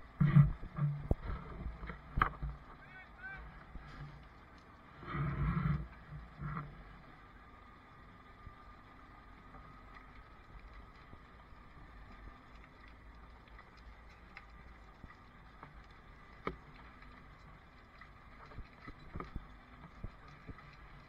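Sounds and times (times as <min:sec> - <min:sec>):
faint clicks: 0:00.2 - 0:07.0, 0:09.4 - 0:21.0.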